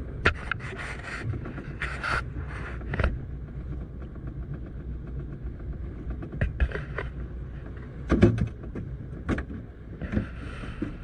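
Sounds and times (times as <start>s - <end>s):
wind and boat rumble: 0.0s - 11.0s.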